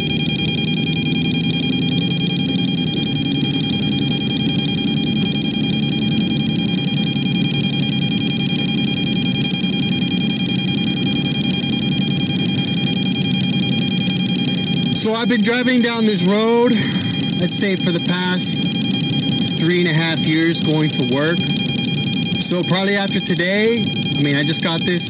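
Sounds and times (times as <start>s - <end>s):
high-pitched alarm beeping: 0.0s - 25.0s.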